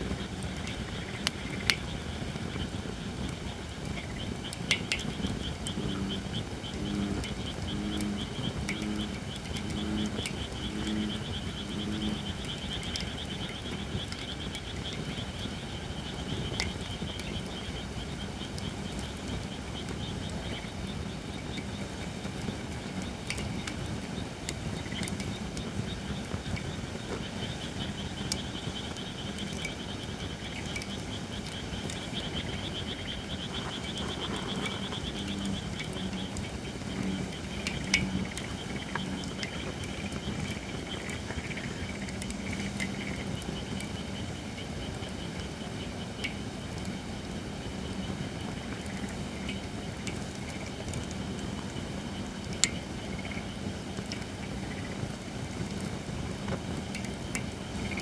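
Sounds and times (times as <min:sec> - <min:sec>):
firewood crackling and popping: 0:00.0 - 0:58.0
frogs calling: 0:00.0 - 0:58.0
low fire rumble: 0:00.0 - 0:58.0.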